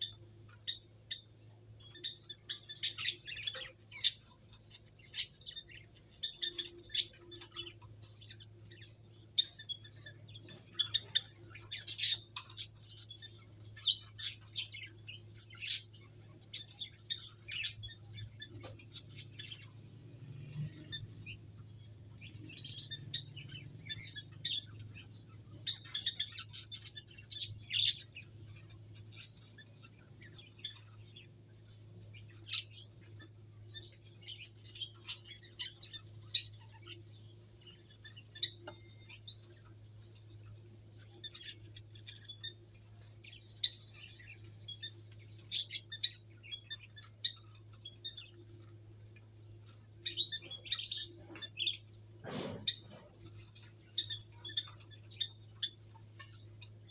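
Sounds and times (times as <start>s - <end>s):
small birds chirping: 0.0s - 56.9s
steady low hum: 0.0s - 56.9s.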